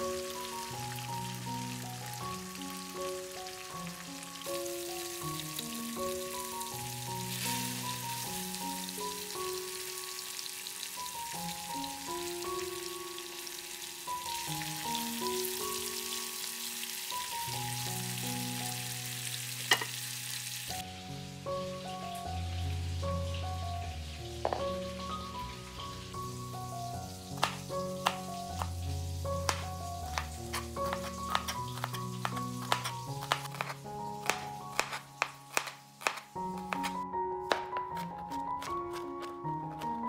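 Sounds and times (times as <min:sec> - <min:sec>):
chicken sizzling in a pan: 0:00.0 - 0:37.0
soft plucked melody music: 0:00.0 - 0:40.0.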